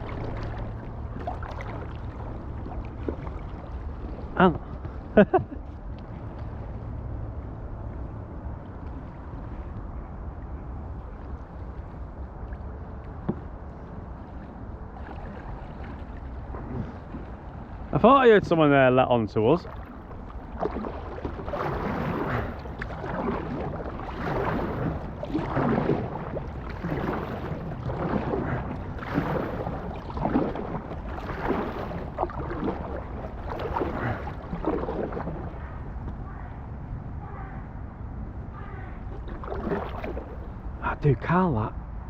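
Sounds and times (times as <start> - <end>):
paddle splashing in water: 0.0 - 9.8, 11.0 - 36.6, 38.5 - 40.9
low steady rumble: 0.0 - 42.0.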